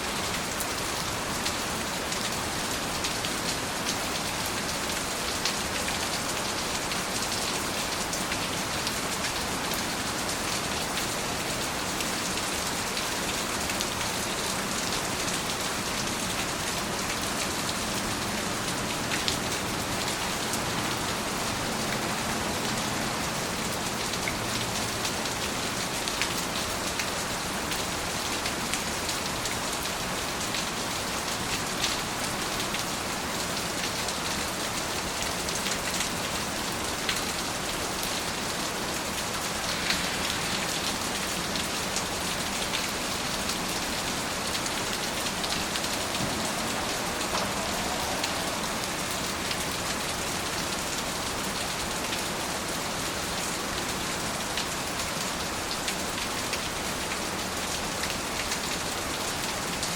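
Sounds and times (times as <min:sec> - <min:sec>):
steady rain falling: 0:00.0 - 0:59.9
raindrops ticking on surface: 0:00.2 - 0:59.9.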